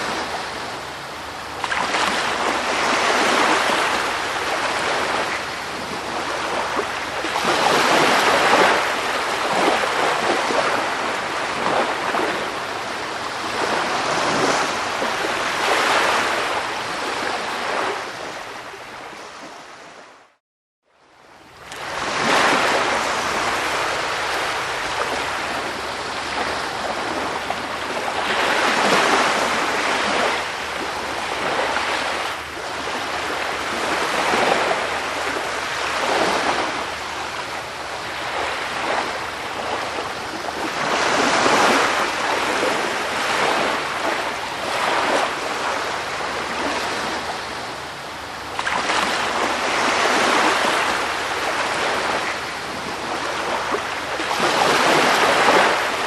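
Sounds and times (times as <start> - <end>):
sea waves breaking on shore: 0.0 - 20.4, 21.4 - 56.0.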